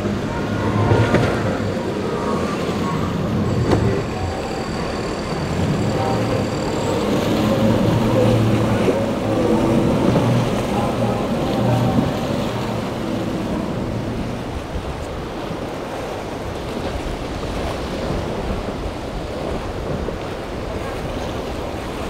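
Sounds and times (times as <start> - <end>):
outboard engines running hard: 0.0 - 22.0
water rushing off hull: 0.0 - 22.0.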